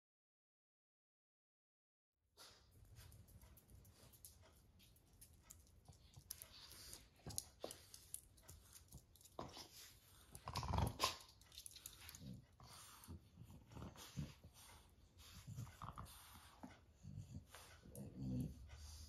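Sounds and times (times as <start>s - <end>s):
faint clicks and rustles: 2.6s - 19.0s.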